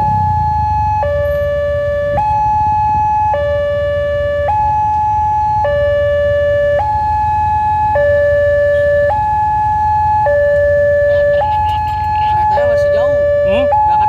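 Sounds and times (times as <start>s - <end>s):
two-tone level crossing alarm: 0.0s - 14.0s.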